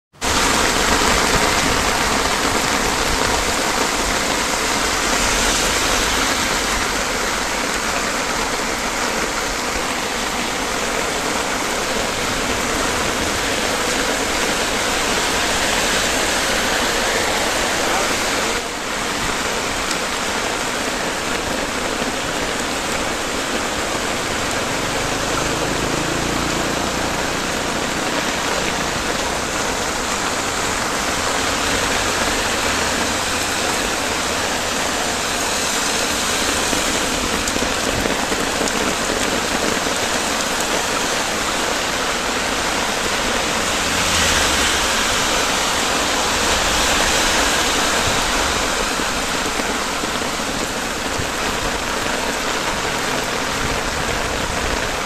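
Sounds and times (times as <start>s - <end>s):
heavy rain on umbrella: 0.0s - 55.0s.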